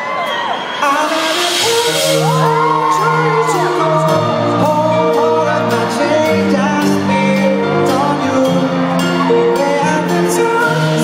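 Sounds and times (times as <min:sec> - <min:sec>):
pop band playing: 0:00.0 - 0:11.0
man singing lead vocal: 0:00.7 - 0:11.0.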